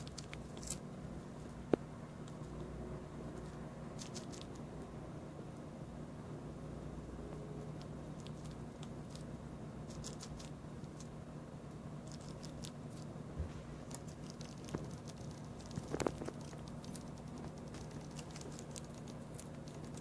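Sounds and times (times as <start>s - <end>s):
squirrel chewing food: 0.0s - 5.0s, 6.6s - 20.0s
low hum: 0.0s - 20.0s.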